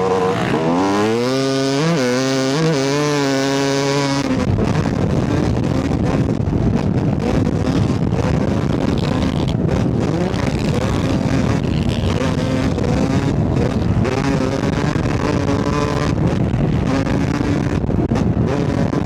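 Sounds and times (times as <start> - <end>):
dirt bike engine running hard: 0.0 - 19.0
wind buffeting microphone: 0.0 - 19.0.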